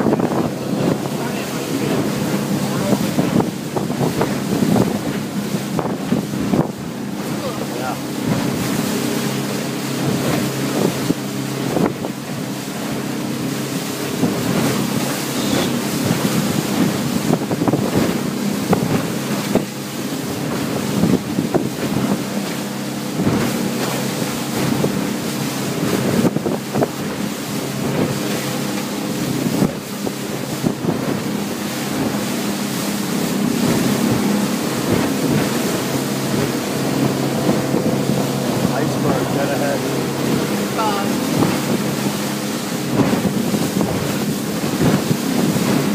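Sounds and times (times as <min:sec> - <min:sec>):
speedboat engine: 0:00.0 - 0:45.9
water rushing past hull: 0:00.0 - 0:45.9
wind buffeting microphone: 0:00.0 - 0:45.9.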